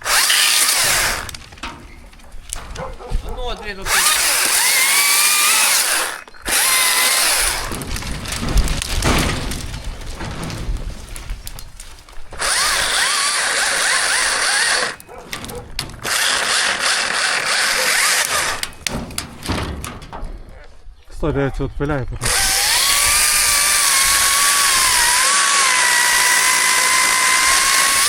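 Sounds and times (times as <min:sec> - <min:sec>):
chainsaw cutting wood: 0:00.0 - 0:03.1, 0:03.8 - 0:10.9, 0:11.5 - 0:19.2, 0:22.2 - 0:28.0.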